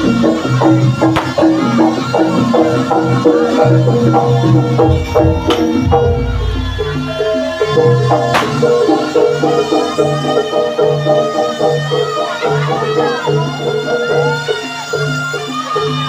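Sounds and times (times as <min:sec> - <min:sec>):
metallic gamelan notes: 0:00.0 - 0:16.0.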